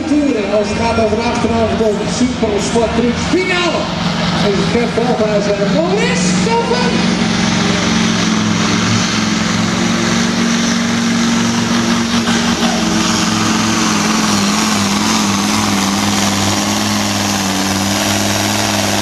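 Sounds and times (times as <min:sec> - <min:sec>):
diesel truck engine at full throttle: 0:00.0 - 0:19.0.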